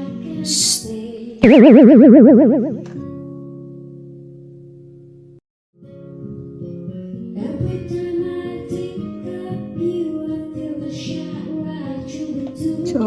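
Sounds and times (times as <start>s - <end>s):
plucked guitar background music: 1.5s - 13.0s.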